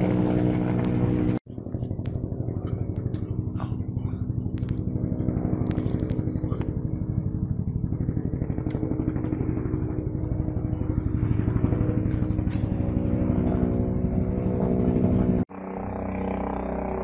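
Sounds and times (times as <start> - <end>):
helicopter engine drone: 0.0 - 17.0
helicopter rotor beat: 0.0 - 17.0.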